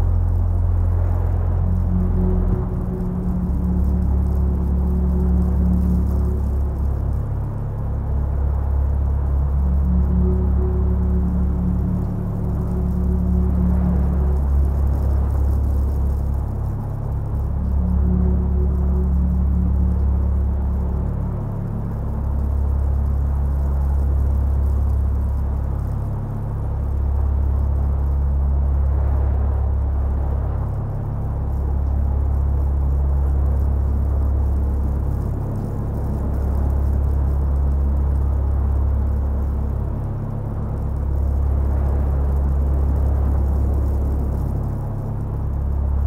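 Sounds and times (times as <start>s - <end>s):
dark ambient drone music: 0.0s - 46.0s
wind hiss: 0.0s - 46.0s.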